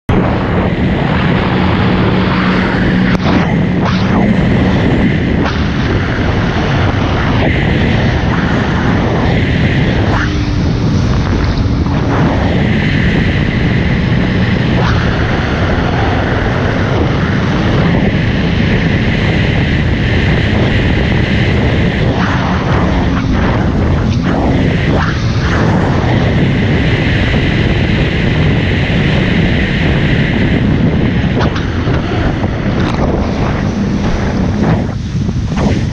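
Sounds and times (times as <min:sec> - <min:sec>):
high engine whine: 0:00.0 - 0:35.9
jet ski engine drone: 0:00.0 - 0:35.9
wind: 0:00.1 - 0:35.9.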